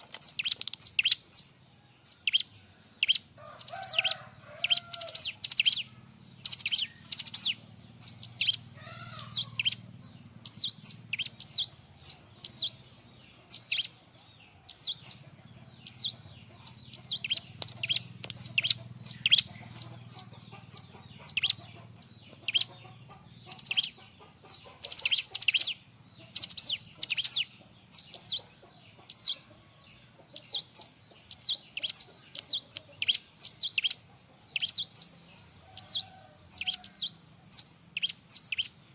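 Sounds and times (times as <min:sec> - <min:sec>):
bird chipping calls: 0:00.0 - 0:14.1, 0:14.7 - 0:38.9.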